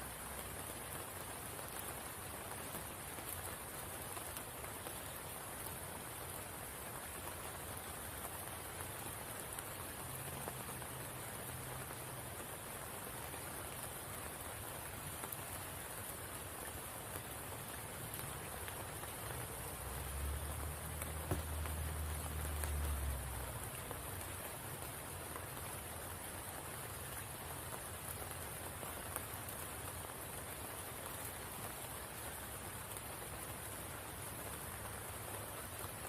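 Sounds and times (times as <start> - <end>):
rain falling on water: 0.0 - 36.0.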